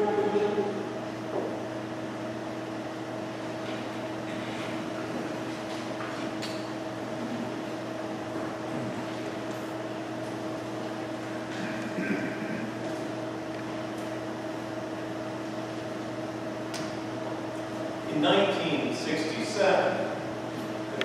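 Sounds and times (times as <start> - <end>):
background hum with level tones: 0.0 - 21.0.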